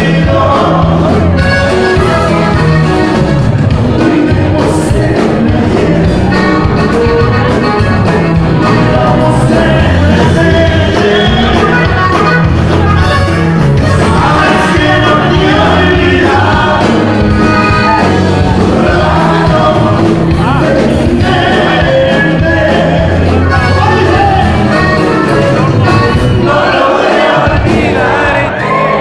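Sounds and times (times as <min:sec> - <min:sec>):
band playing live: 0:00.0 - 0:29.0
person singing melody: 0:00.0 - 0:29.0.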